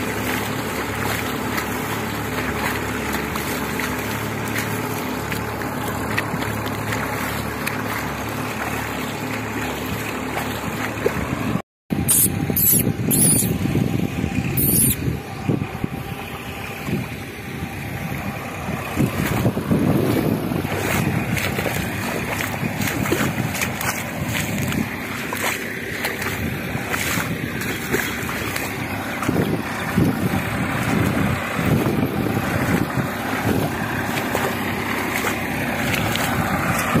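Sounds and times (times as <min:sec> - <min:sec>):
distant tractor engine running: 0:00.0 - 0:37.0
wind buffeting microphone: 0:00.0 - 0:37.0.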